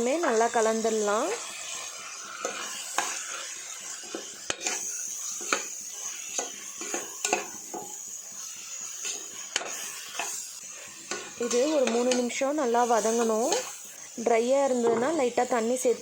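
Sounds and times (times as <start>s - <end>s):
food sizzling: 0.0s - 16.0s
metal spoon scraping pot: 0.2s - 15.2s.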